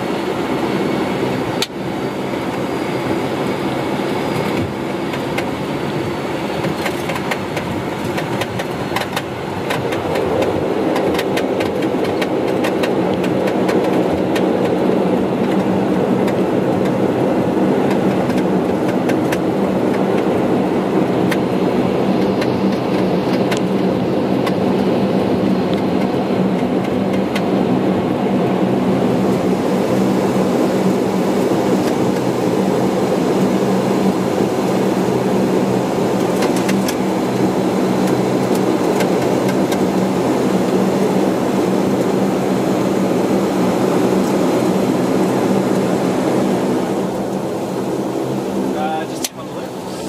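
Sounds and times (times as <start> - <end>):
turboprop engines droning: 0.0 - 50.0.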